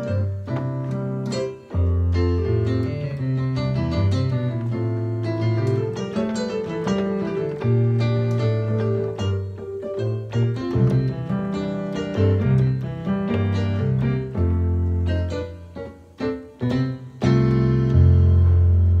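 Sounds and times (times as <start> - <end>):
electronic keyboard piano melody: 0.0 - 19.0.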